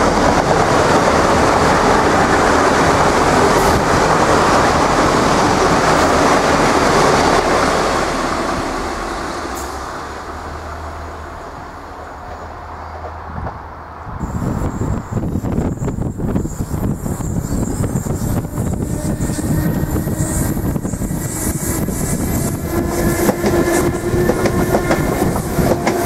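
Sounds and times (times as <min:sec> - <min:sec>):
diesel train passing: 0:00.0 - 0:26.0
train wheels on rails: 0:00.0 - 0:26.0.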